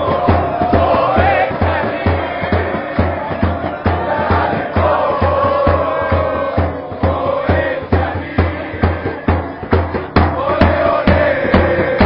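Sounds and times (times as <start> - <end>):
crowd chanting: 0.0 - 12.0
heavy beat: 0.0 - 12.0.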